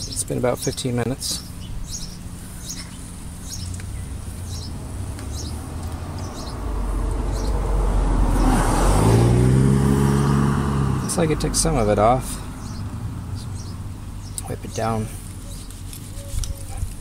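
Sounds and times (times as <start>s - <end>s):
bird chirping: 0.0s - 9.1s, 10.0s - 17.0s
vehicle engine: 0.0s - 17.0s.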